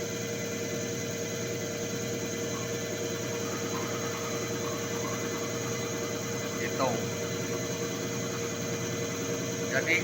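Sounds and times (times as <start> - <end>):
machine humming with fast pulsing: 0.0 - 10.0.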